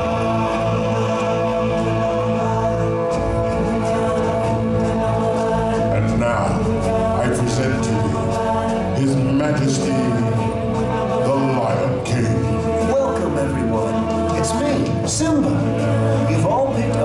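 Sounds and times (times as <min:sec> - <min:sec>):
chorus singing held notes: 0:00.0 - 0:17.0.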